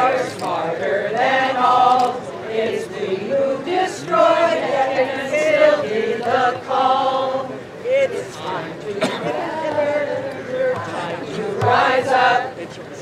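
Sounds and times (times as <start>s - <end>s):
group singing unaccompanied: 0.0s - 13.0s.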